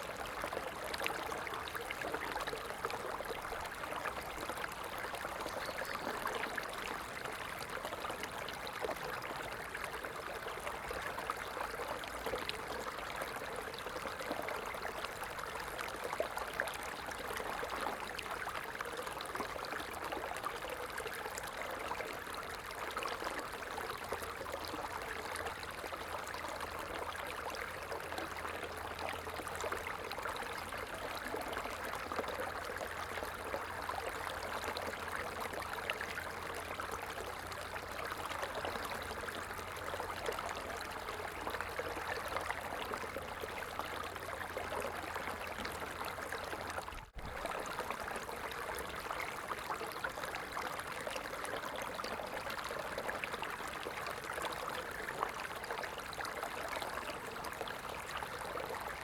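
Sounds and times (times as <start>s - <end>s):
stream of water flowing: 0.0s - 59.0s.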